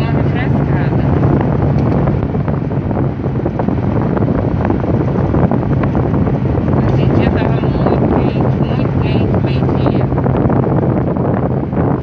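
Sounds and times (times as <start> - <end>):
road and wind noise in car: 0.0 - 12.0.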